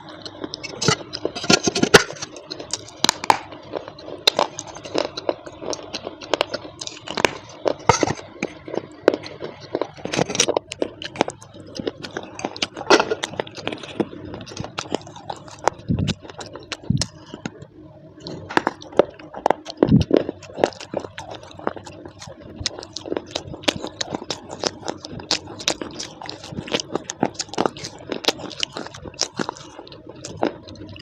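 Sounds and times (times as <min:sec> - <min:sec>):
crisp clicks crackles and scrapes: 0:00.0 - 0:31.0.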